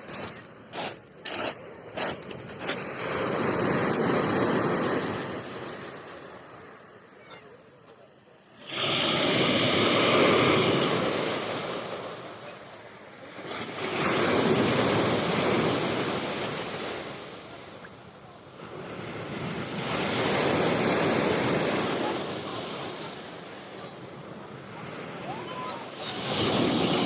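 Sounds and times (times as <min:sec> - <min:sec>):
waves breaking: 0:00.0 - 0:27.0.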